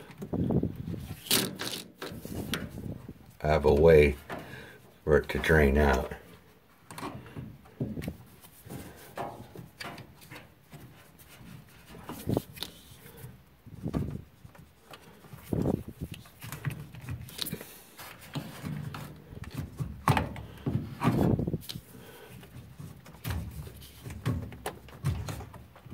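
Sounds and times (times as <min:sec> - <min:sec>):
plastic scraping against metal: 0:00.0 - 0:25.9.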